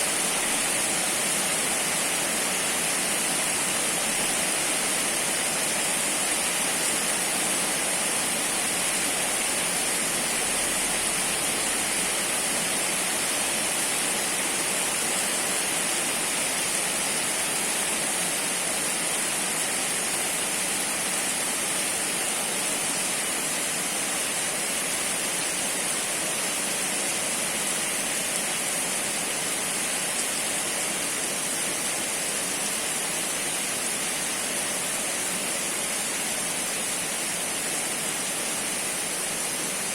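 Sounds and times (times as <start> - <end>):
steady downpour of rain: 0.0 - 39.9.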